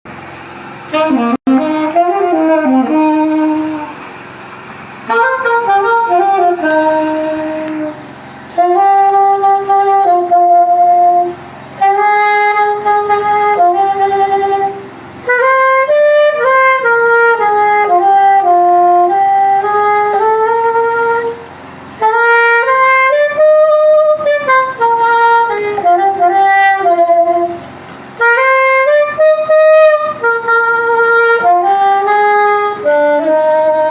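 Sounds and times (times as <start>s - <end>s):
saxophone hymn melody: 0.2s - 33.9s.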